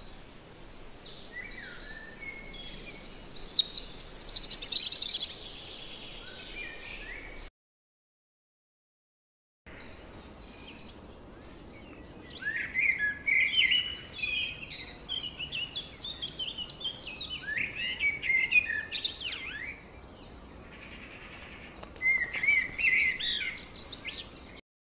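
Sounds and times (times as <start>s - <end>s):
songbird singing: 0.0s - 7.5s, 9.7s - 24.6s.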